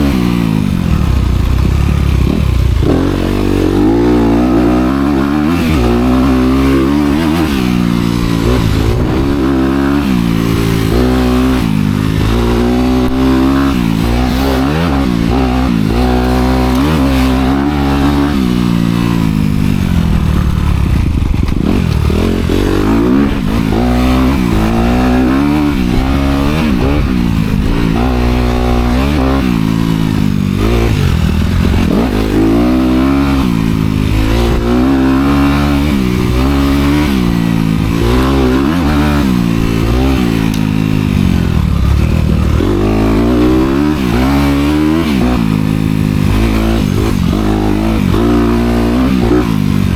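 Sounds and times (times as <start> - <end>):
dirtbike engine revving: 0.0 - 49.9.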